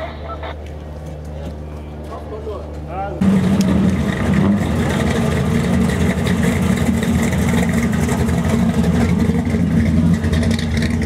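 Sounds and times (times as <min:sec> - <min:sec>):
car engines idling and rumbling: 0:00.0 - 0:11.0.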